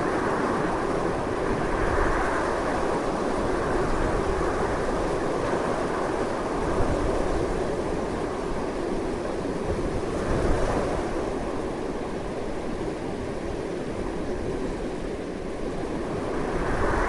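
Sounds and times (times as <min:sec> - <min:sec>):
strong wind rushing: 0:00.0 - 0:08.7, 0:09.6 - 0:11.9, 0:14.3 - 0:17.0.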